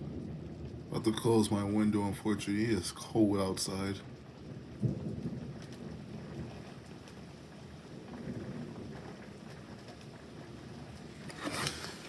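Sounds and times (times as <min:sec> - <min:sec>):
low thunder rumbling: 0:00.0 - 0:03.0, 0:03.6 - 0:11.3
rain falling: 0:00.0 - 0:12.0.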